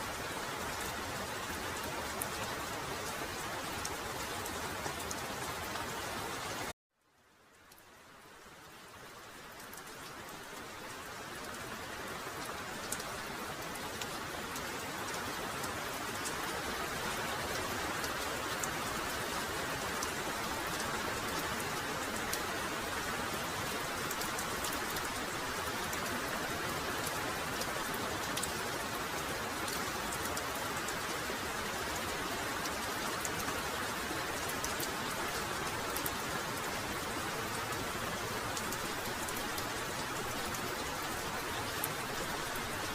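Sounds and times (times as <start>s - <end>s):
heavy rain pouring: 0.0s - 6.7s, 7.6s - 42.9s.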